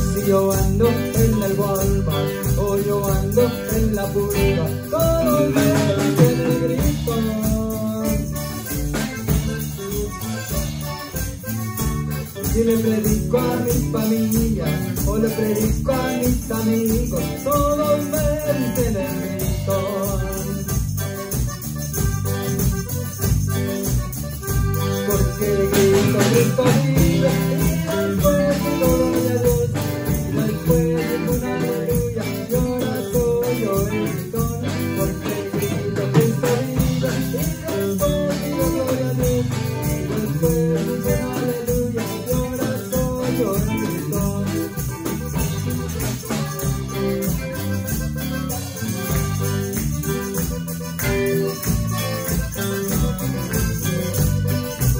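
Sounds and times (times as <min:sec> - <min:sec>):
accordion: 0:00.0 - 0:54.9
bass guitar: 0:00.0 - 0:54.9
drum kit: 0:00.0 - 0:54.9
electric guitar: 0:00.0 - 0:54.9.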